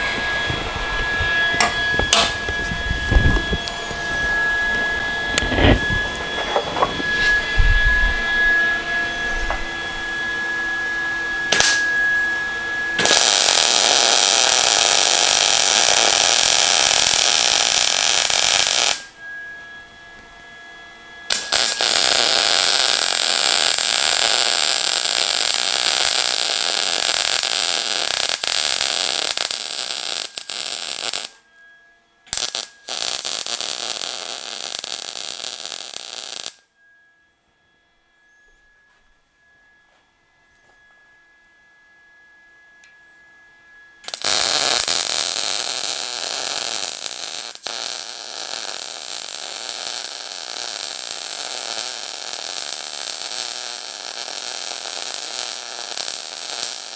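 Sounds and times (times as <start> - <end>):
arc welding crackling and hissing: 0.0 - 19.2, 21.3 - 31.4, 32.3 - 36.7, 44.0 - 56.9.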